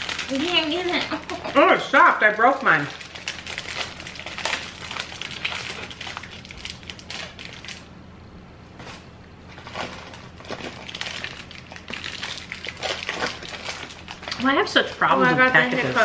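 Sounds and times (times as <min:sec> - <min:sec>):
plastic wrappers crinkling: 0:00.0 - 0:07.9, 0:08.8 - 0:16.0.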